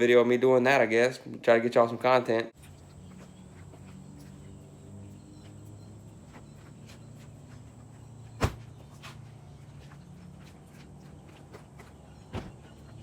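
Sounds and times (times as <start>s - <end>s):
faint footsteps: 2.6s - 13.0s.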